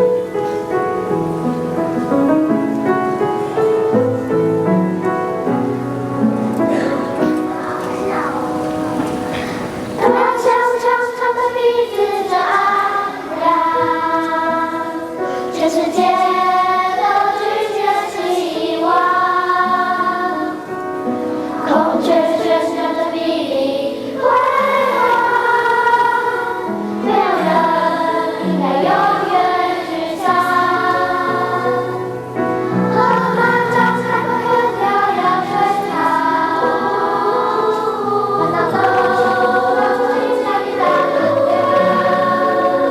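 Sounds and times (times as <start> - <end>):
children's choir singing: 0.0 - 42.9.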